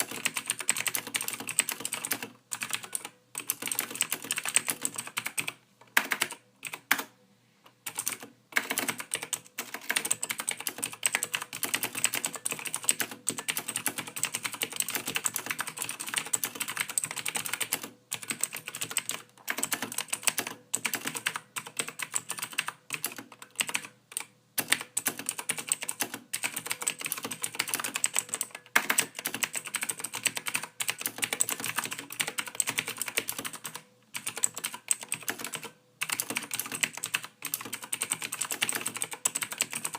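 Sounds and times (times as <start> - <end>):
keyboard typing: 0.0 - 7.1, 7.8 - 39.9.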